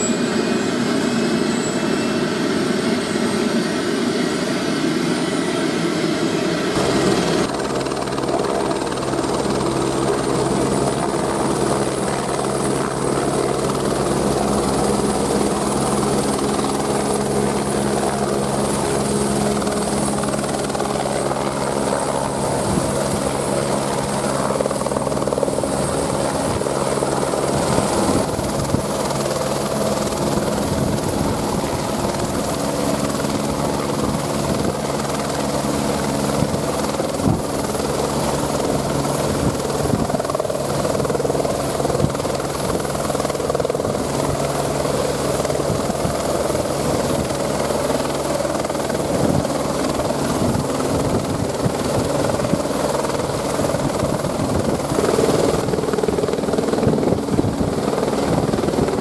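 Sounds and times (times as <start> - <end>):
helicopter rotor hovering: 0.0 - 59.0
high turbine whine: 0.0 - 59.0.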